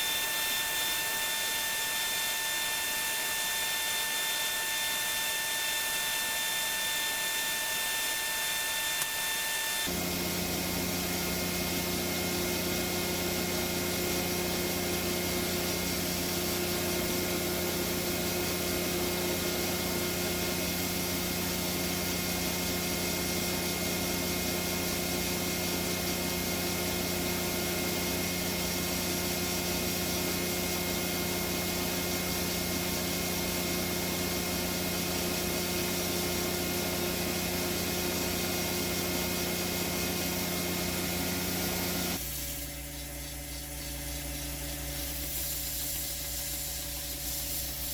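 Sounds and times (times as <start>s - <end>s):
power tool running: 0.0s - 47.9s.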